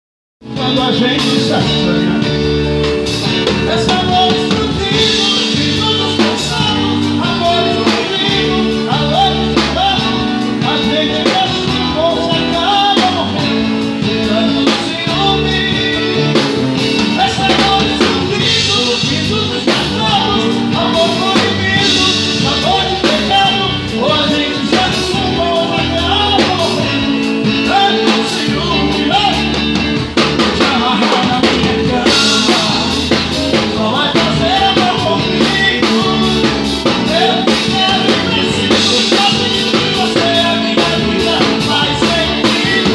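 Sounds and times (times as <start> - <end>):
drum kit beat: 0.4 - 42.9
electric guitar: 0.4 - 42.9
person singing: 0.4 - 42.9.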